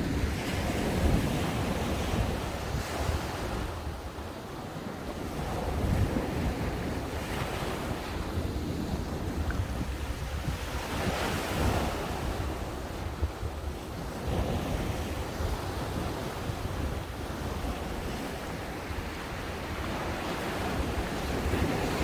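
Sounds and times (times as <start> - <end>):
ocean waves breaking on beach: 0.0 - 22.0
wind buffeting microphone: 0.0 - 22.0.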